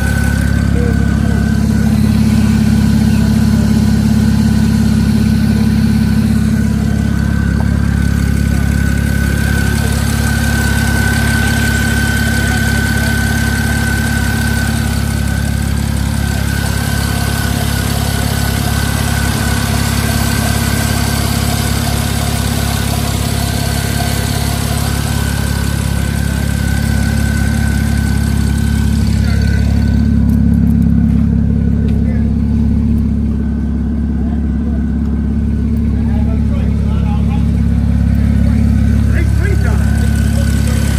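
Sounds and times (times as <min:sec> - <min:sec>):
car engine idling: 0:00.0 - 0:40.9
high-pitched whine: 0:00.0 - 0:40.9.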